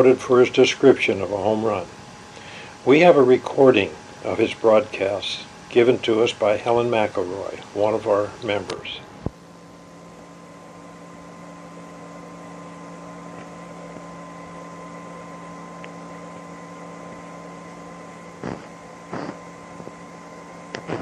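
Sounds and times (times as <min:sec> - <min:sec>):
recording hiss and electrical hum: 0:00.0 - 0:21.0.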